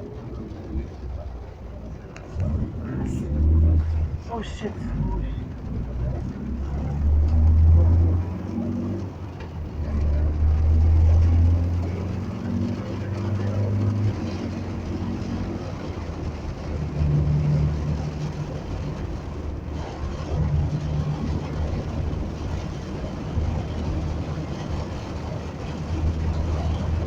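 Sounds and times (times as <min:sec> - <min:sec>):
heavy rain falling: 0:00.0 - 0:27.0
vehicle engines on wet street: 0:00.0 - 0:27.0.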